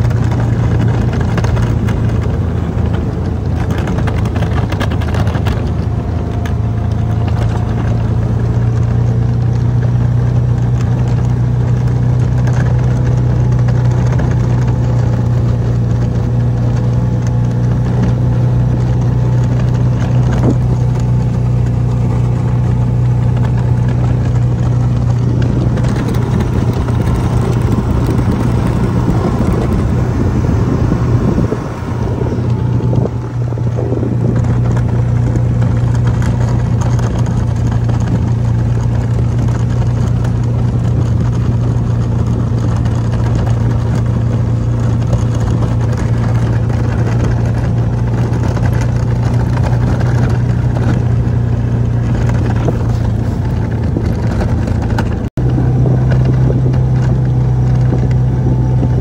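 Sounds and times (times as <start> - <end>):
utility vehicle engine running: 0.0 - 59.0.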